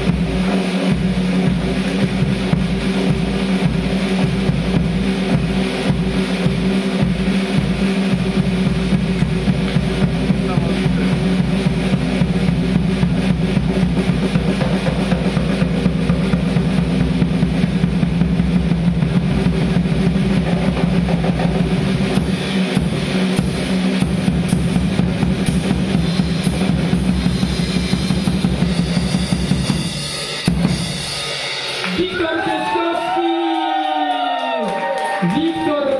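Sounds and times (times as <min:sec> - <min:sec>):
drum kit solo: 0:00.0 - 0:35.9.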